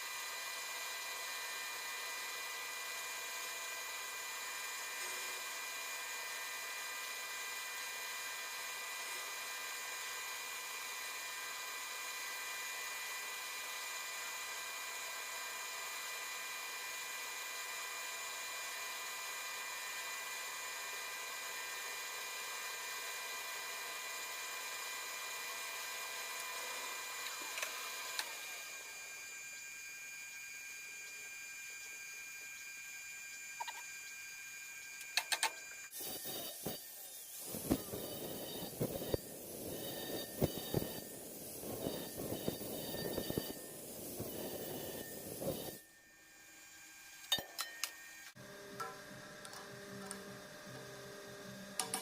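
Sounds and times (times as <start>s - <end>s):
lathe motor whine: 0.0s - 52.0s.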